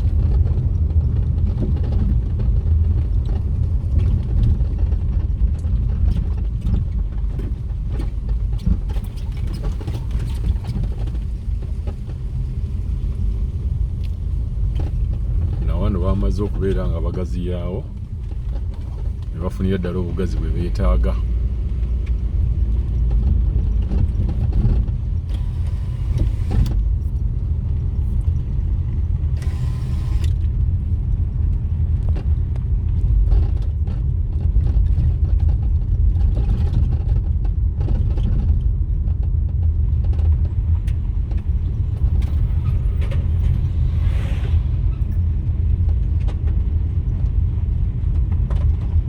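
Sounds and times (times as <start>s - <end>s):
vehicle driving on road: 0.0s - 49.0s.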